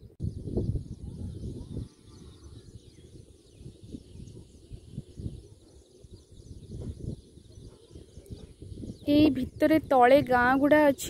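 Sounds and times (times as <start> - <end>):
faint bird chirps: 0.0 - 11.0
low rumbling on microphone: 0.0 - 11.0.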